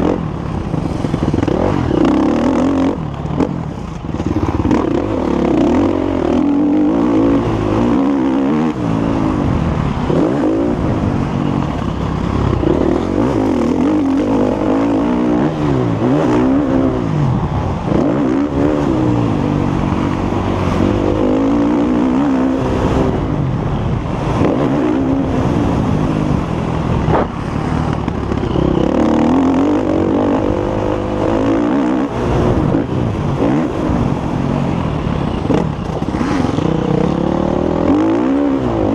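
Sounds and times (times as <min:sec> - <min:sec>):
motocross bike engine: 0:00.0 - 0:38.9.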